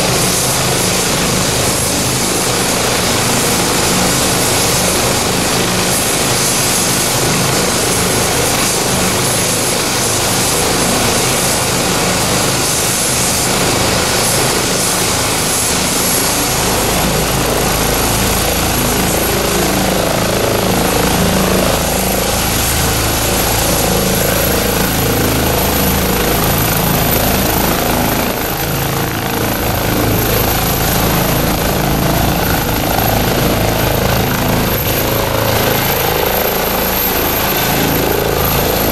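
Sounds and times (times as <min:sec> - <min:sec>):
helicopter turbine whine: 0:00.0 - 0:38.9.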